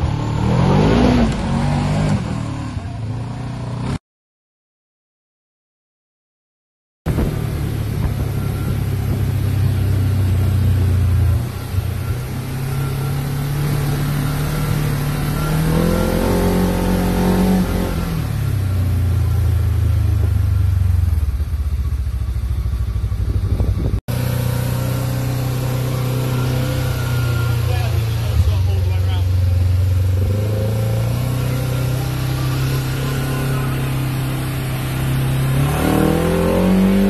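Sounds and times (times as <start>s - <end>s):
vehicle engine running: 7.1s - 37.0s.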